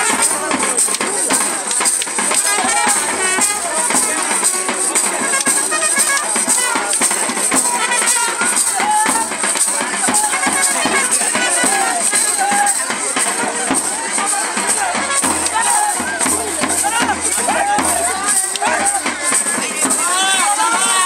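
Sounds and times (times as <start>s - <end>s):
metal cymbals clashing: 0.0s - 20.8s
drums beating: 0.0s - 21.0s
voices shouting: 0.0s - 21.0s.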